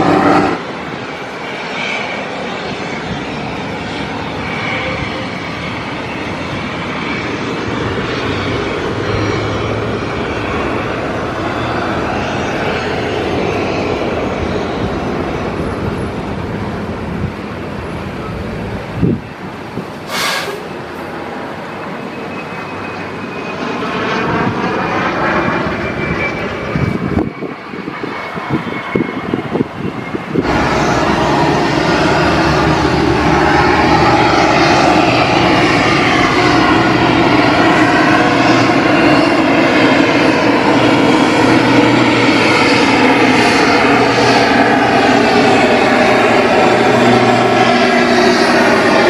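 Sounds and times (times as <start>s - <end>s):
jet engine whine: 0.0s - 49.0s
turboprop taxiing: 0.0s - 49.0s.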